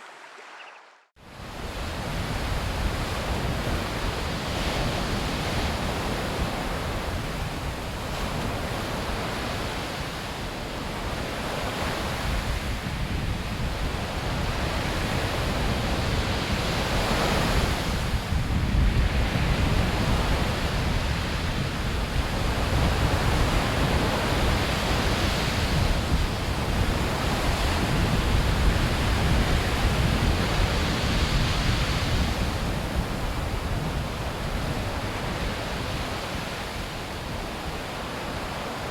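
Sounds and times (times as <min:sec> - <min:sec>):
waves washing onto shore: 0:00.0 - 0:38.9
wind: 0:00.0 - 0:38.9.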